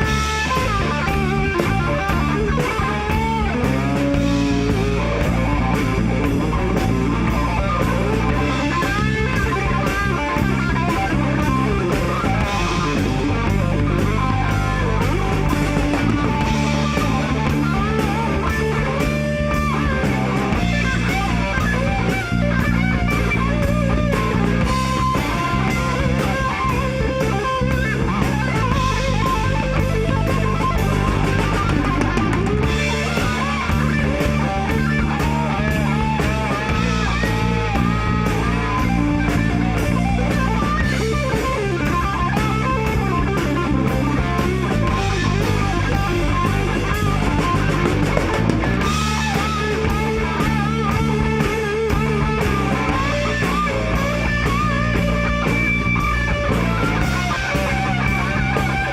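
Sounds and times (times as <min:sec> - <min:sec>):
bass guitar: 0:00.0 - 0:58.9
drum kit: 0:00.0 - 0:58.9
electric guitar lead: 0:00.0 - 0:58.9.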